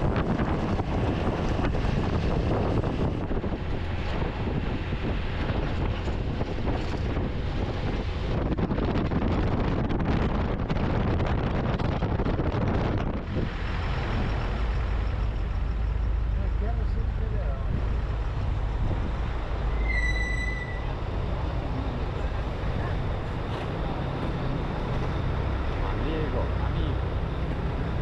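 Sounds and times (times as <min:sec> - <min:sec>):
low engine rumble: 0:00.0 - 0:28.0
wind buffeting microphone: 0:00.0 - 0:28.0.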